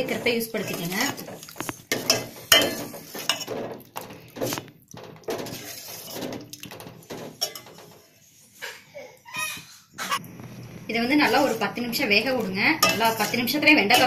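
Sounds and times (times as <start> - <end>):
ladle scraping a metal pot: 0.0 - 8.6, 11.2 - 14.0.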